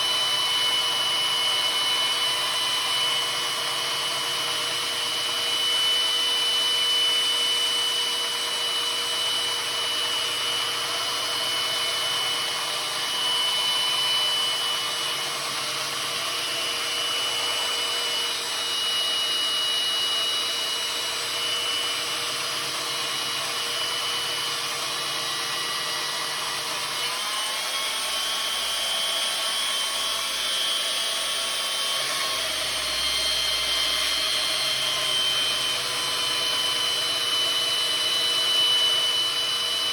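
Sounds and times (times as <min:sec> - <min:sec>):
power tool motor whine: 0:00.0 - 0:39.9.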